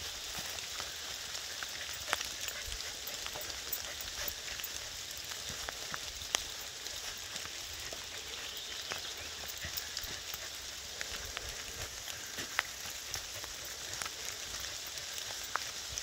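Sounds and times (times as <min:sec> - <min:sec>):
rain on foliage: 0:00.0 - 0:16.0
sharp drips ticking: 0:00.2 - 0:16.0.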